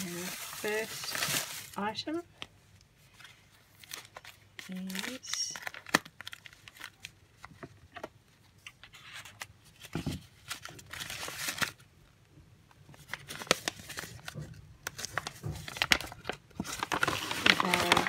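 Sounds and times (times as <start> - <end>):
paper rustling and crinkling: 0.0 - 11.8, 12.9 - 18.0.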